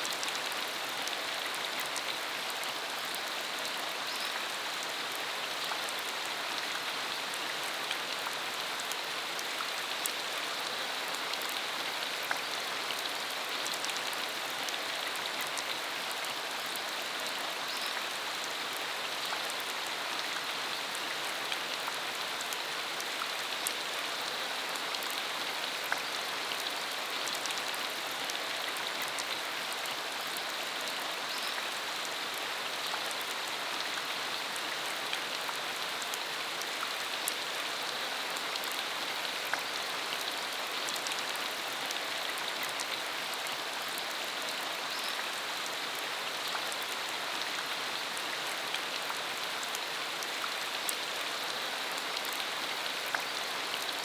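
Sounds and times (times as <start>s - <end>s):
rain falling on dirt road: 0.0s - 54.0s.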